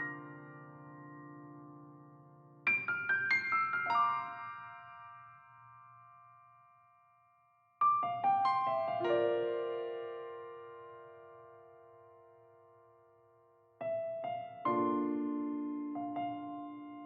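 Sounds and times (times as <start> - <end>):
piano music: 0.0 - 5.4, 7.8 - 17.0.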